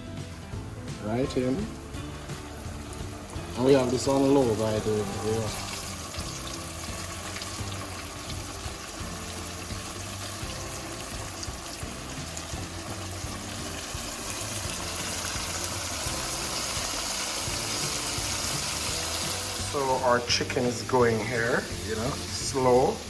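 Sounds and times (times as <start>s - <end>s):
chicken sizzling in oil: 0.0s - 23.0s.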